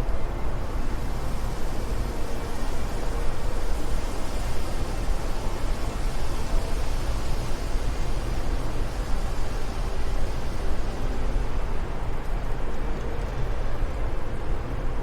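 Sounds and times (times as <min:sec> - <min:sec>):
steady wind: 0:00.0 - 0:15.0.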